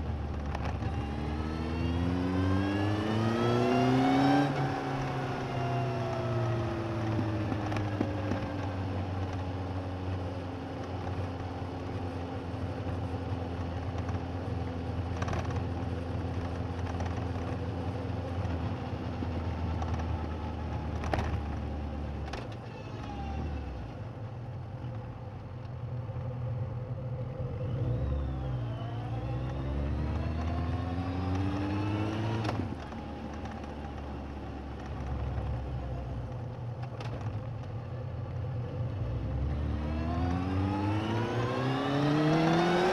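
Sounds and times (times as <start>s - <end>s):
motorcycle engine rumble: 0.0s - 42.9s.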